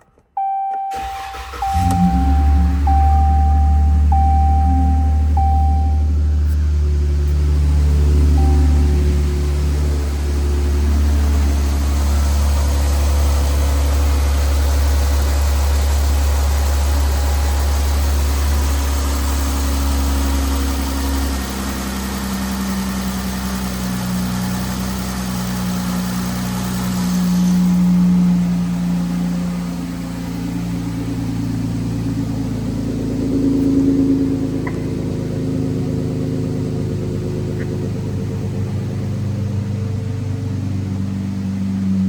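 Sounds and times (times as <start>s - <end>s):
engine idling: 0.4s - 42.0s.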